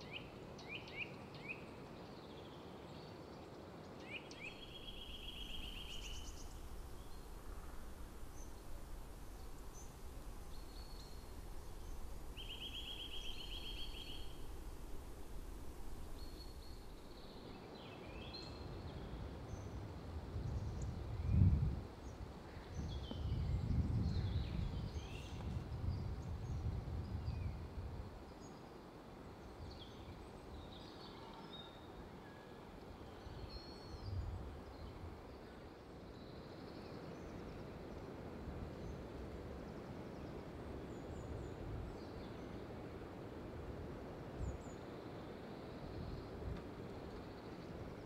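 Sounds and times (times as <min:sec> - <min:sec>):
faint background hiss: 0:00.0 - 0:48.0.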